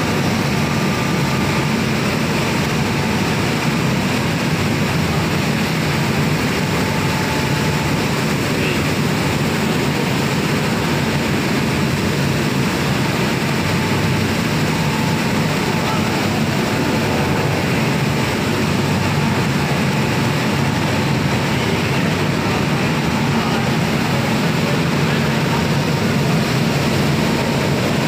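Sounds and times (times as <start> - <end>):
factory machinery drone: 0.0 - 28.0.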